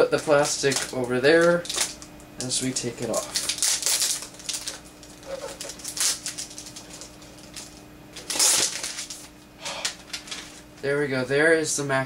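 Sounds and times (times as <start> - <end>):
plastic wrap crinkling: 0.0 - 10.7.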